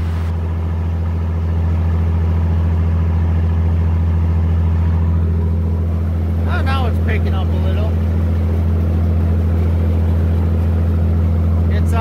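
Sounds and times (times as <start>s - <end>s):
diesel tractor engine running: 0.0s - 12.0s
pump pumping thick slurry: 0.0s - 12.0s.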